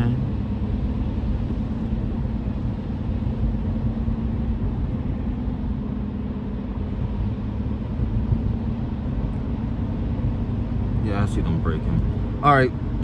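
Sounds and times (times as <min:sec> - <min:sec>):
constant hum: 0:00.0 - 0:13.0
engine and road rumble: 0:00.0 - 0:13.0.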